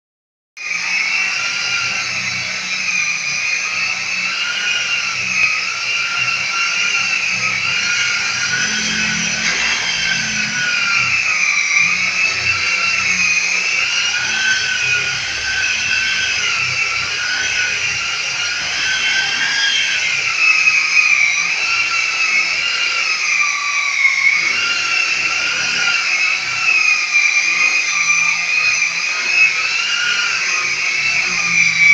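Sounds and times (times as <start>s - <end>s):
electric polisher whining on wall: 0.6s - 31.9s.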